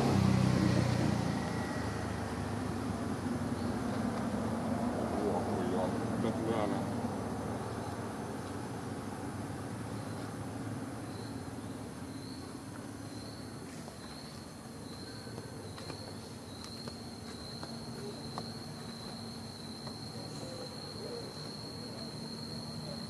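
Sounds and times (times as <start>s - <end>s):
insect droning: 0.0s - 23.0s
outdoor background noise: 0.0s - 23.0s.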